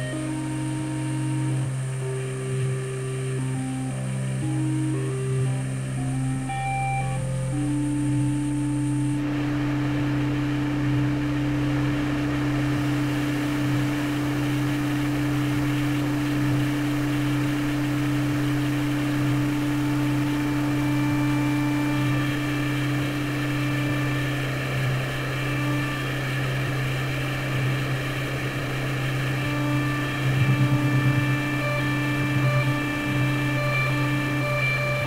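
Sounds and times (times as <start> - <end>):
ambient guitar drone: 0.0 - 35.0
high sustained guitar tones: 0.0 - 35.0.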